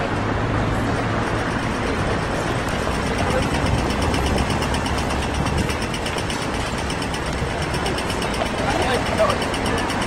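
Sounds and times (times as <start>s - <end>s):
street traffic noise: 0.0s - 10.0s
tram rumbling: 0.0s - 10.0s
fast regular ticking: 0.9s - 10.0s.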